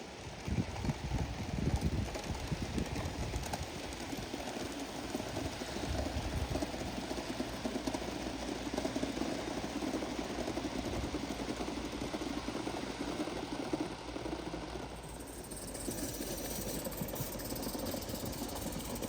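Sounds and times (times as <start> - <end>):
model steam locomotive chugging: 0.0 - 19.0.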